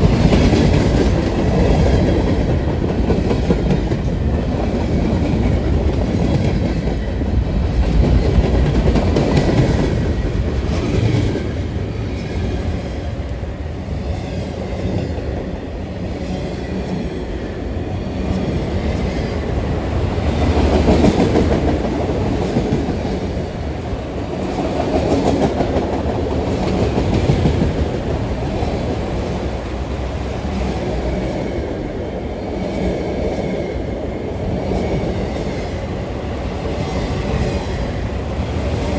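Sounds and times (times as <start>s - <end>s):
heavy train rumble: 0.0s - 38.9s
train wheels clacking on rails: 0.0s - 38.9s.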